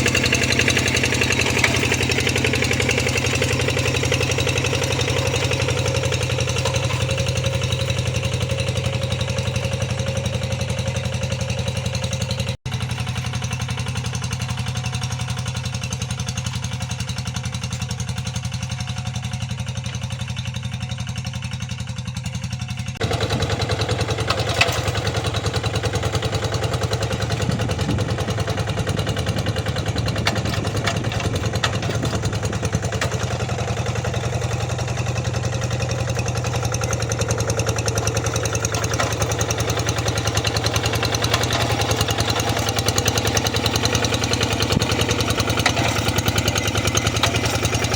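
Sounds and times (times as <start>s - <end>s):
clatter: 0.0s - 47.9s
tractor engine running: 0.0s - 47.9s.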